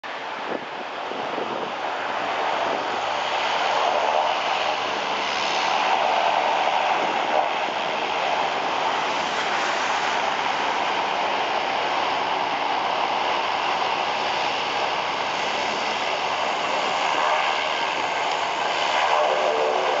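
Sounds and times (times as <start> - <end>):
hovercraft engines droning: 0.1 - 20.0.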